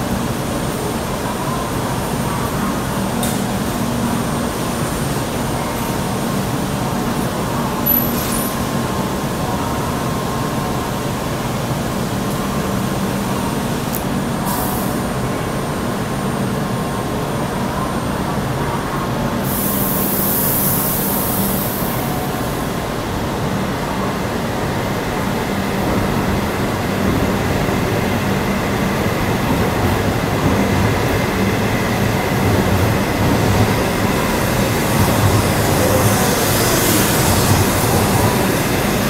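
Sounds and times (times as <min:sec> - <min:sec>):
train electric hum: 0:00.0 - 0:39.0.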